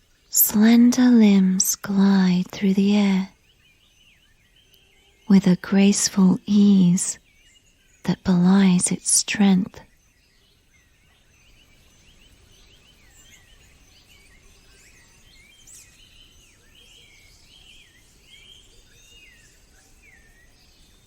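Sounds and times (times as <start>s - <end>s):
soft low hiss: 0.0s - 21.0s
birds chirping: 0.3s - 21.0s.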